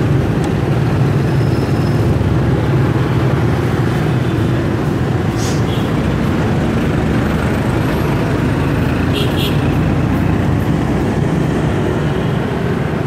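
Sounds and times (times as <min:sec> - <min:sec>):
buses and motorbikes: 0:00.0 - 0:13.0
road noise: 0:00.0 - 0:13.0
scooter engine: 0:00.0 - 0:13.0.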